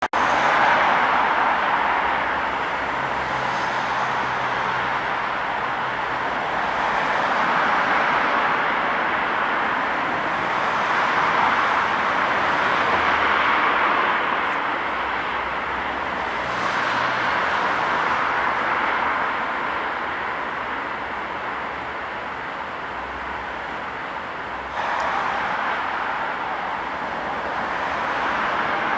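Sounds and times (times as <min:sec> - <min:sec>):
jet engines roaring: 0:00.2 - 0:28.9.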